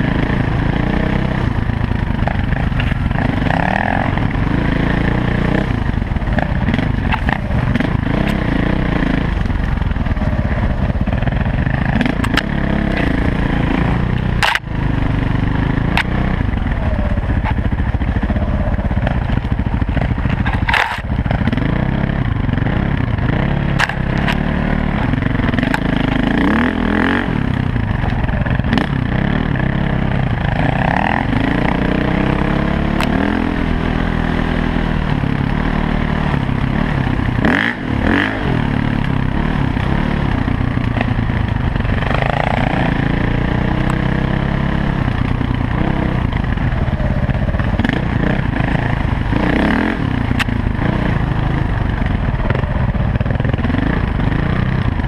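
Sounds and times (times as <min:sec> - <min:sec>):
dirt bike engine revving: 0:00.0 - 0:55.0
knocks and rattles from bike: 0:00.0 - 0:55.0.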